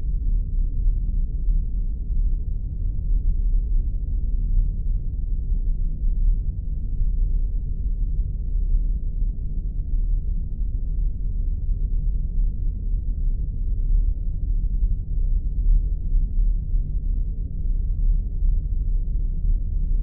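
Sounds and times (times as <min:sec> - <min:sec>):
deep rumbling hum: 0:00.0 - 0:20.0.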